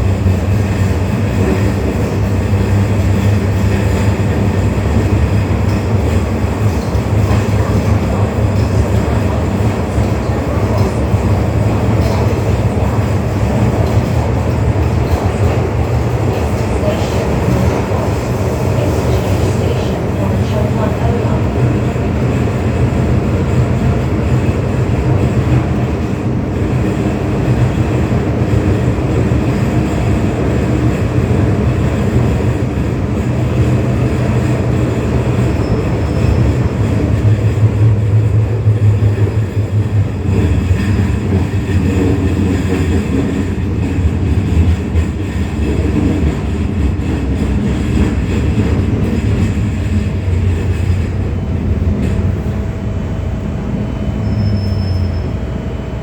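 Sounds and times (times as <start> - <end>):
train cab loud rumble: 0.0 - 56.0.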